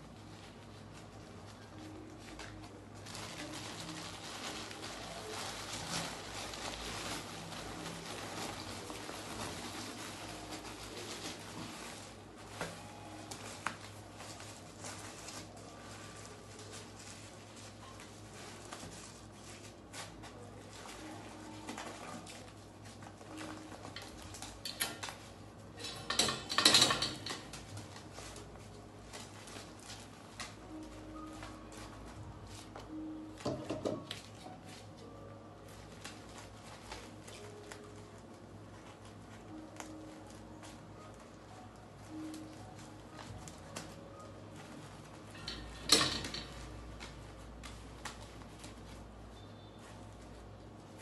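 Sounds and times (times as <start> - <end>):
plastic diaper crinkling: 0.1 - 51.0.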